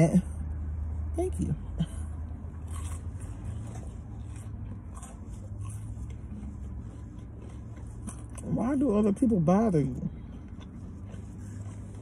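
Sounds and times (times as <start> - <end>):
low hum inside car: 0.0 - 12.0
chewing fried food: 2.1 - 12.0.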